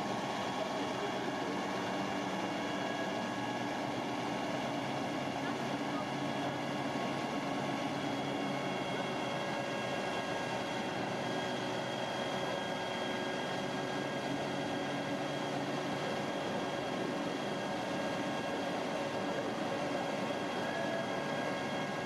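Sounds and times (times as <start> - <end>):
truck engine and hydraulic pump hum: 0.0 - 22.0.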